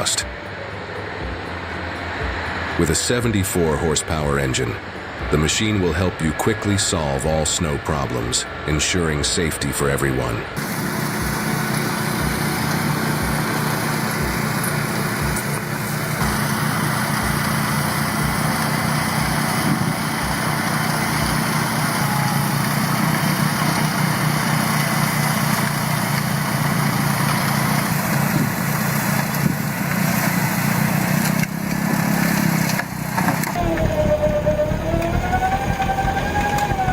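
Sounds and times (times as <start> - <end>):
tractor engine drone: 0.0 - 36.9.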